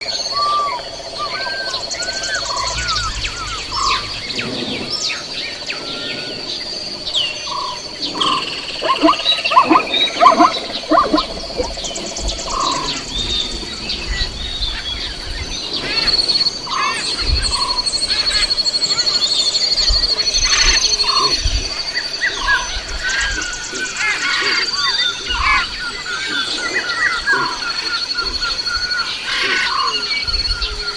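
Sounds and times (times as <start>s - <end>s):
birds calling and chirping: 0.0s - 30.9s
steady high-pitched whine: 0.0s - 30.9s.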